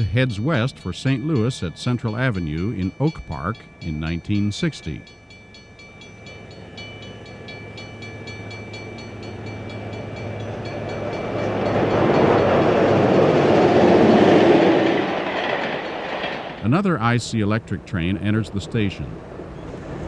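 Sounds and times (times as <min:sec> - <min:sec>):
passenger train passing: 0:00.0 - 0:20.0.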